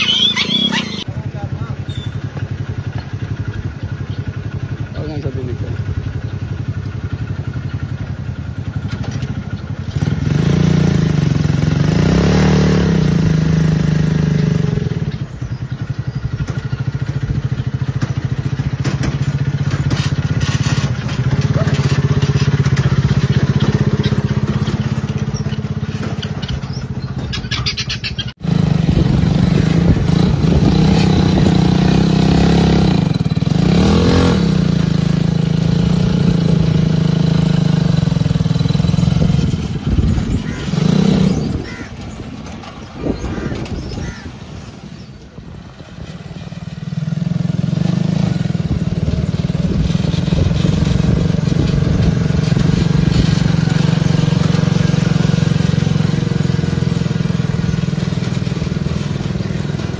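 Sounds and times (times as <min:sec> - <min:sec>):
small tractor engine running: 0:00.0 - 0:59.9.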